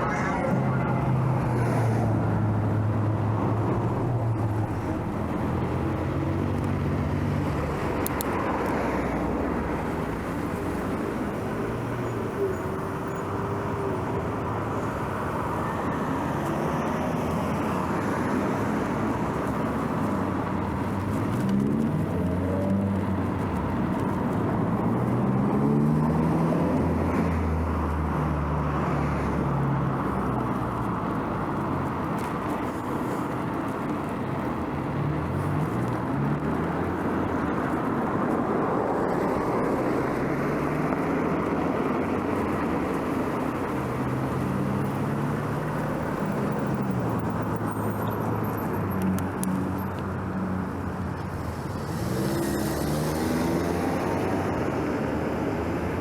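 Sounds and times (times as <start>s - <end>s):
engines accelerating: 0.0s - 56.0s
road traffic passing: 0.0s - 56.0s.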